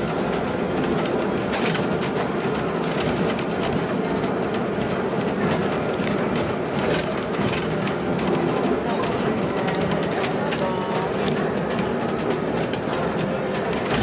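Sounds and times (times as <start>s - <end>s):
bus engine: 0.0s - 14.0s
road noise: 0.0s - 14.0s.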